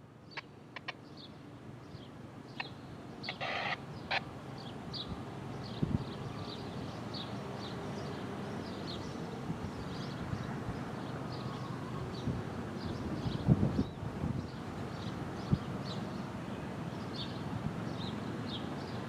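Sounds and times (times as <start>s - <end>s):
small birds chirping: 0.3s - 19.0s.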